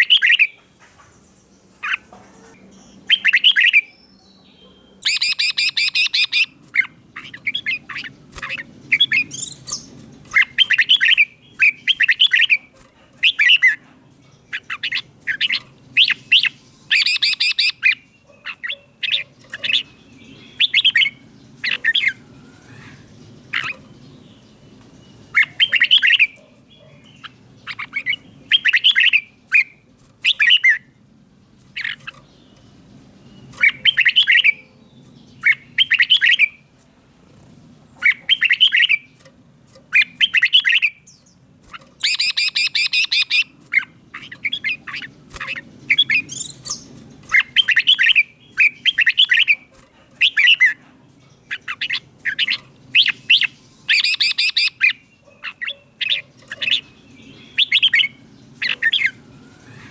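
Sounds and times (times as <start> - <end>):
bird singing warbled phrases: 0.0 - 59.9.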